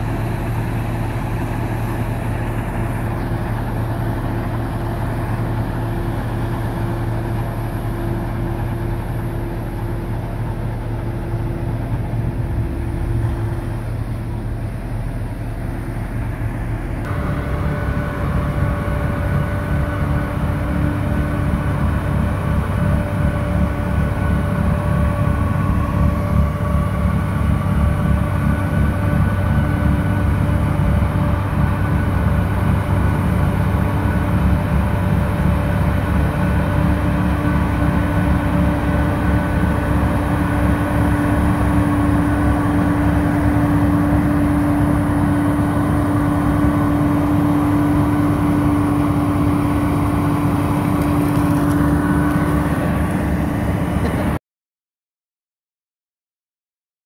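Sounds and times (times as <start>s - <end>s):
diesel engine working hard: 0.0s - 54.4s
snow blower whine: 0.0s - 54.4s.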